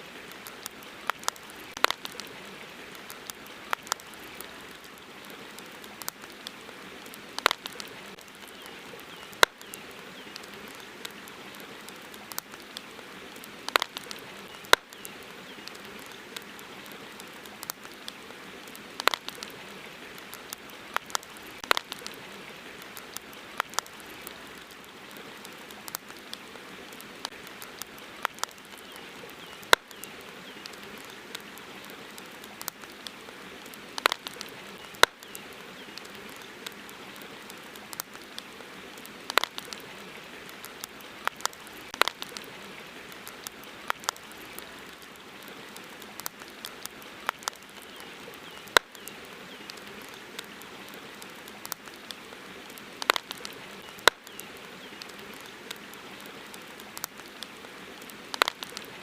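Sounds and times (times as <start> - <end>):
campfire crackling: 0.0 - 59.0.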